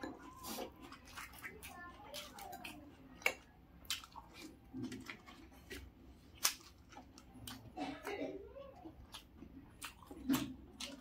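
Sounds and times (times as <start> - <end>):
wet squishing and chewing: 0.0 - 11.0.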